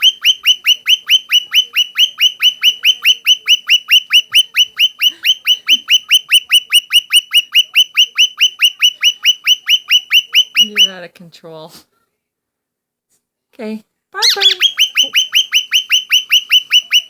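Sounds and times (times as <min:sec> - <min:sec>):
bird chirping rapidly: 0:00.0 - 0:11.0, 0:14.2 - 0:17.0.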